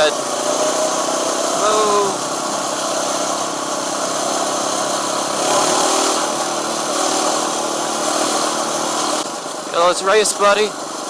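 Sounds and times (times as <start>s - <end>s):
small four-stroke engine running: 0.0s - 11.0s.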